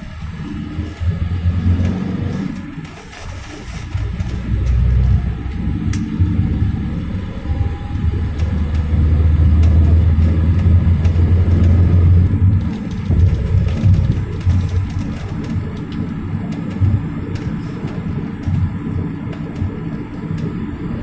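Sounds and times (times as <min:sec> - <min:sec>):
minibus engine and road rumble: 0:00.0 - 0:21.0.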